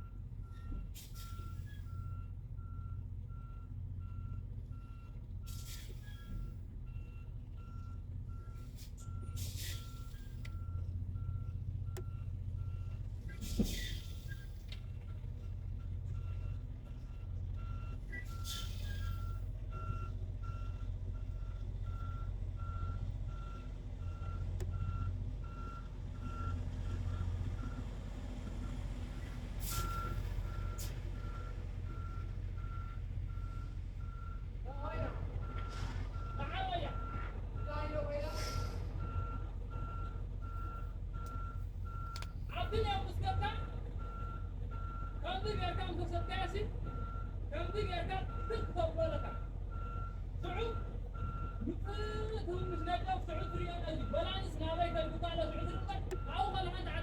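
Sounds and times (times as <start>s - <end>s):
reversing alarm beeps: 0.0s - 12.9s, 15.8s - 27.8s, 29.7s - 34.5s, 35.4s - 57.0s
diesel engine rumble: 0.0s - 57.0s.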